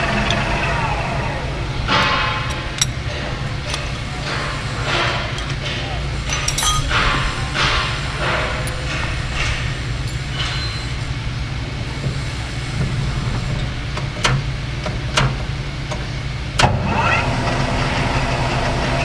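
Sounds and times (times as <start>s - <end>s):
lathe running: 0.0s - 14.0s, 16.7s - 19.0s.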